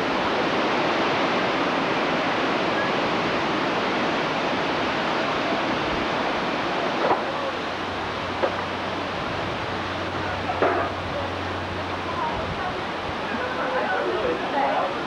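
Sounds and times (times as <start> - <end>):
rain falling: 0.0 - 15.0
wind through trees: 0.0 - 15.0.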